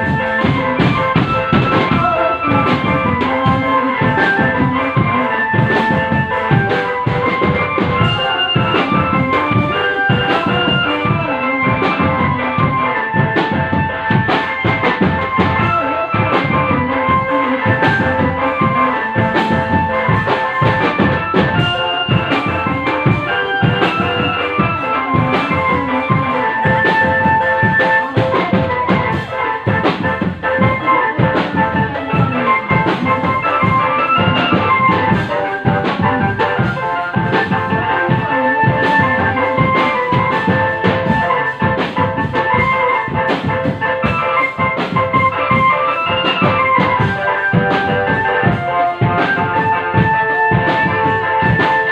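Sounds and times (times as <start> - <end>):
drum band playing: 0.0 - 51.9
melody in held notes: 0.0 - 51.9.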